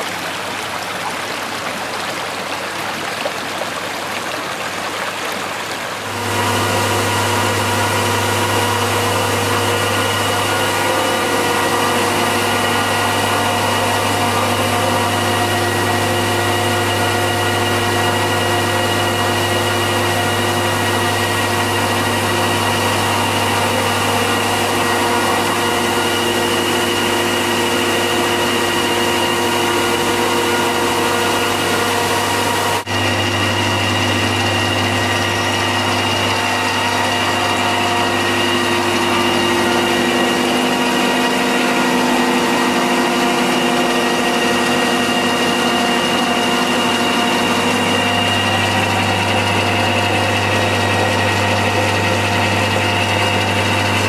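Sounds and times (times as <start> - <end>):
rushing water noise: 0.0 - 54.0
turbine generator hum: 6.0 - 54.0.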